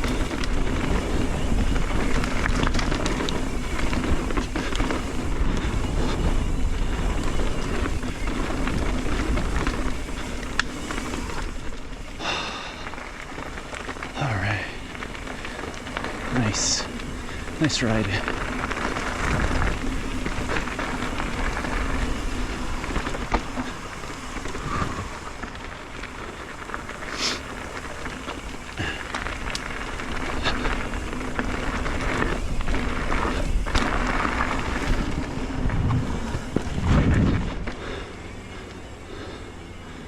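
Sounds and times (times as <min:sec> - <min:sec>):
wind noise: 0:00.0 - 0:39.3
mountain bike rattling: 0:00.0 - 0:40.0.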